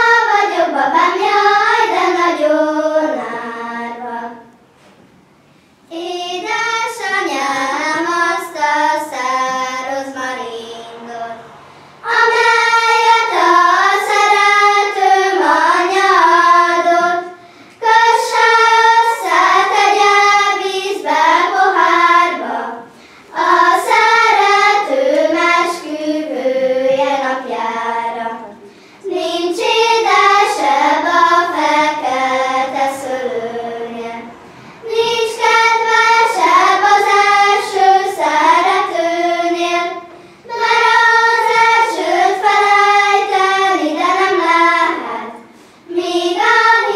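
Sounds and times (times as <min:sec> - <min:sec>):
children singing in unison: 0:00.0 - 0:04.5, 0:05.9 - 0:46.9.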